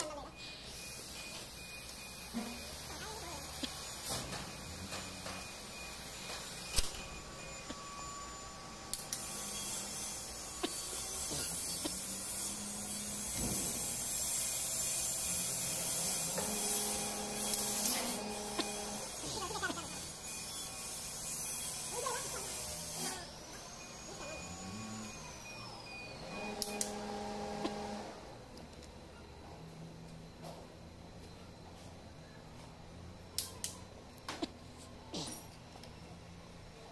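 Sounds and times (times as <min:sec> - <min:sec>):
hissing workshop noise: 0:00.0 - 0:36.9.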